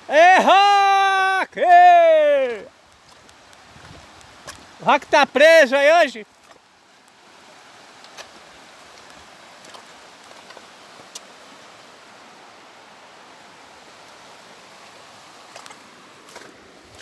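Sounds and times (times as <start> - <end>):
rushing water hiss: 0.0 - 17.0.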